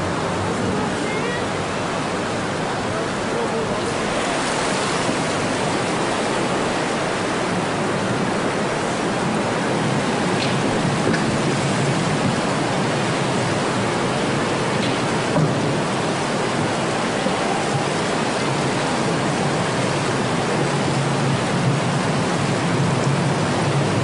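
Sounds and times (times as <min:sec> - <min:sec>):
floodwater rushing and churning: 0:00.0 - 0:24.0.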